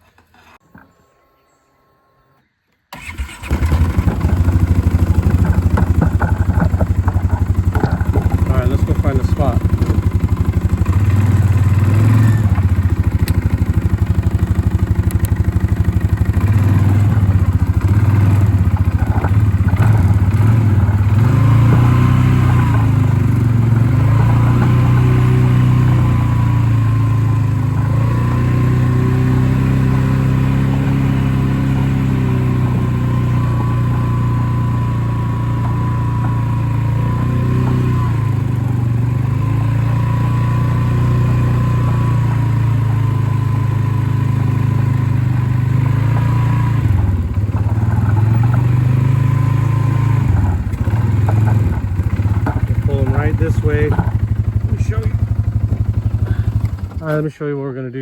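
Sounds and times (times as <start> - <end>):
small engine running: 2.9 - 57.4.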